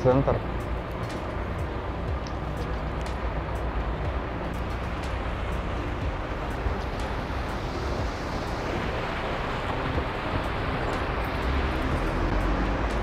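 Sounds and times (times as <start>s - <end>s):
city traffic rumble: 0.0s - 13.0s
wind buffeting microphone: 0.3s - 13.0s.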